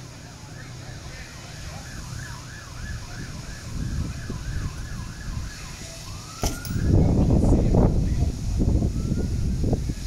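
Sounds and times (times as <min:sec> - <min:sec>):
emergency vehicle siren: 0:00.2 - 0:07.6, 0:08.3 - 0:10.0.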